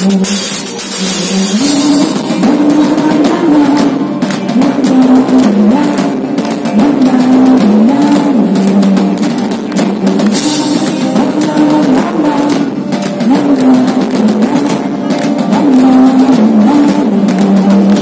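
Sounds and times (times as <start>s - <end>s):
drum kit beat: 0.0s - 18.0s
repeating keyboard riff: 0.0s - 18.0s.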